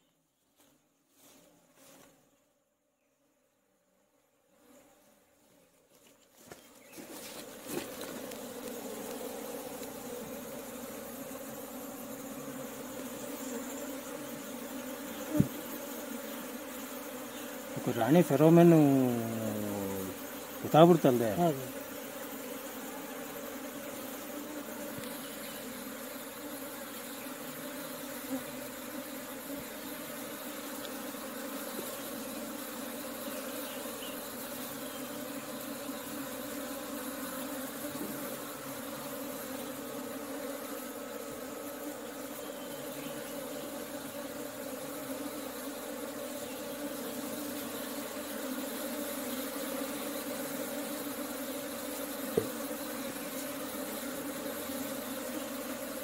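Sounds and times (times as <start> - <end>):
bees buzzing: 3.3 - 56.0.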